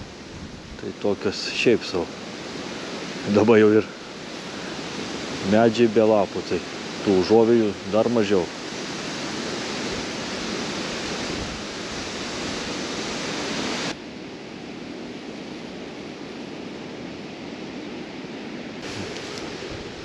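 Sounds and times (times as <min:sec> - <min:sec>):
wind blowing: 0:00.0 - 0:20.0.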